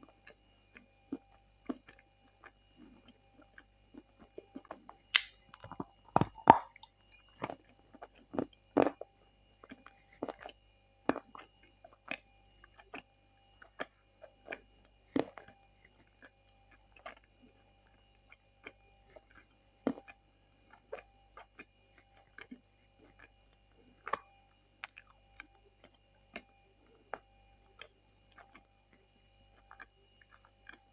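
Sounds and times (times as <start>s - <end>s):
clay chewing with wet clicks: 0.0s - 30.9s.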